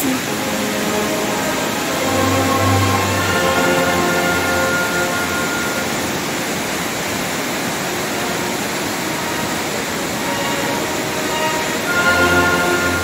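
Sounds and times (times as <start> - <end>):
background music: 0.0 - 7.0, 7.6 - 13.0
white water rushing: 0.0 - 13.0.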